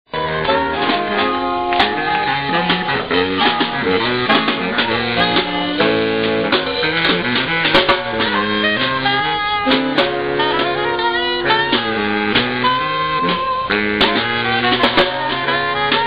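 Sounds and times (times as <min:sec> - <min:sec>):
saxophones playing jazz: 0:00.1 - 0:16.0
snare drum beating: 0:00.5 - 0:16.0.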